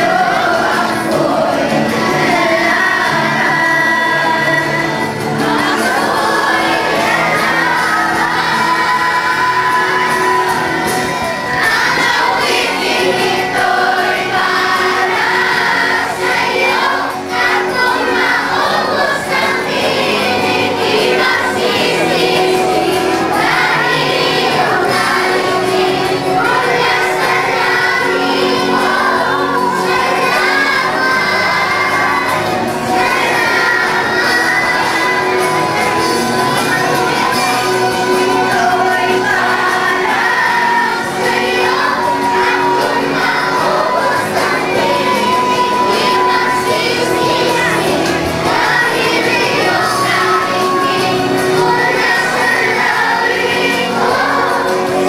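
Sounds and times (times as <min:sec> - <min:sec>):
instrumental accompaniment: 0:00.0 - 0:55.0
people singing: 0:00.0 - 0:55.0.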